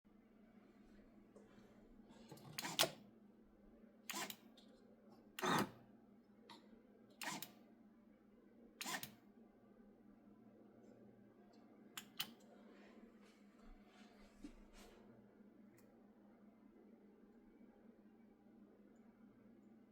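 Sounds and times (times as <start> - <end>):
faint steady hum: 0.1 - 19.9.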